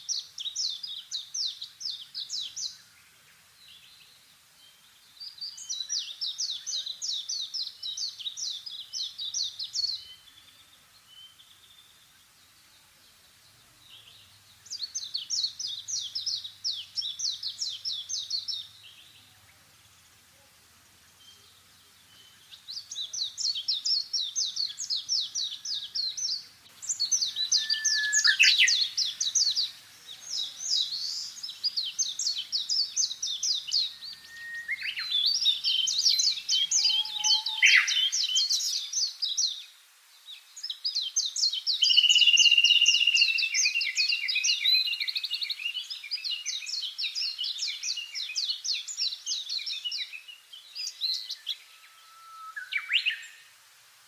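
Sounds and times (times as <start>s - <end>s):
songbirds twittering: 0.0s - 53.6s.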